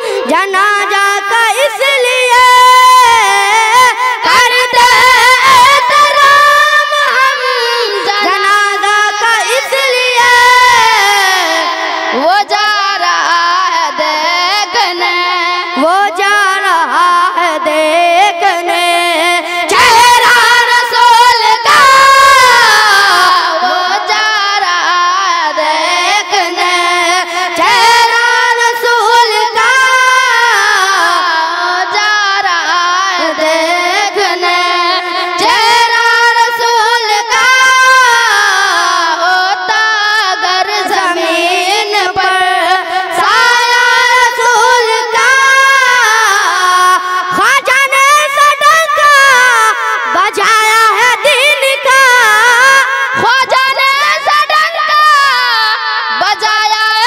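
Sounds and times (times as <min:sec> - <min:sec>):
boys singing through microphones: 0:00.0 - 0:57.0.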